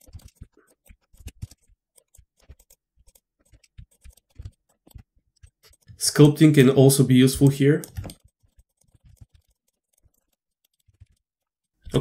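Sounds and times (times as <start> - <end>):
keyboard and mouse clicking: 0.0 - 6.0, 7.4 - 12.0.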